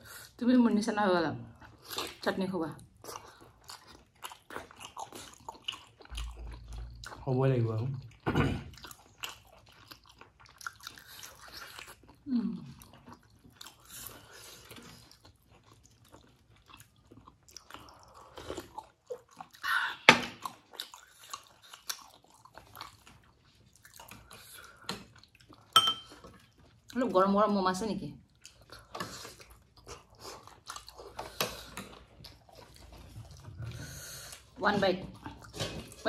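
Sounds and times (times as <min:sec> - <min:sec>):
chewing mouth sounds: 0:02.8 - 0:07.3, 0:08.0 - 0:27.0, 0:28.2 - 0:36.0.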